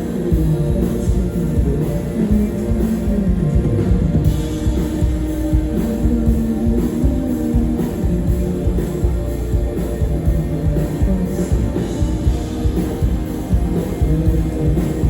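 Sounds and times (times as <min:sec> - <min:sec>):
bass: 0:00.0 - 0:15.0
drum kit beat: 0:00.0 - 0:15.0
electric guitar lines: 0:00.0 - 0:15.0.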